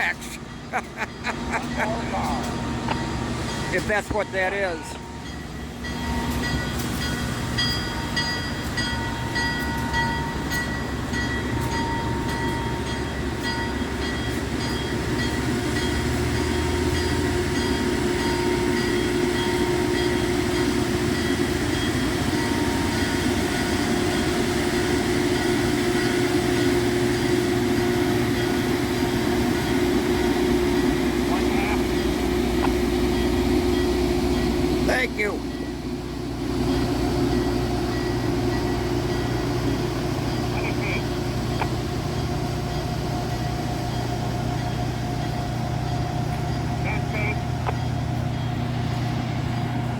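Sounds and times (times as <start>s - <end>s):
high steady ringing tones: 0.0s - 49.9s
locomotive engine running: 0.0s - 49.9s.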